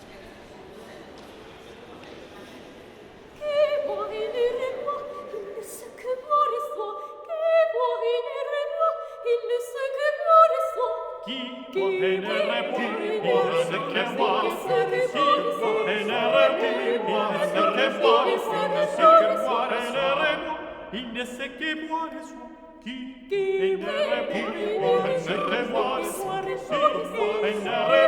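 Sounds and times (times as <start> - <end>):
unaccompanied choir singing: 3.4 - 28.0.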